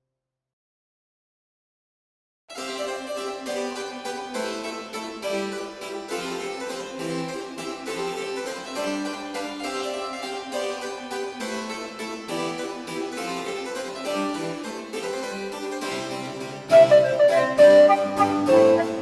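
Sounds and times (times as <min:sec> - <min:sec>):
harpsichord music: 0:02.5 - 0:19.0.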